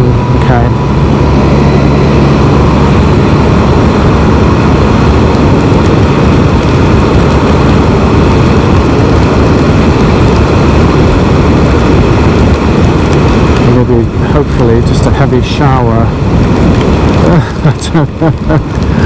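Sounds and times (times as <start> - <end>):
engine running: 0.0 - 19.0
wind rush on microphone: 0.0 - 19.0.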